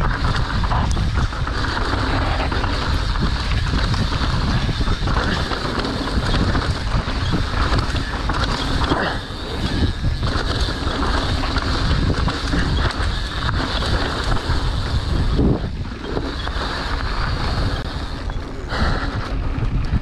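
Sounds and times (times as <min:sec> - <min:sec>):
bike rattling and knocking: 0:00.0 - 0:20.0
bike tyres rumbling: 0:00.0 - 0:20.0
wind rushing over microphone: 0:00.0 - 0:20.0.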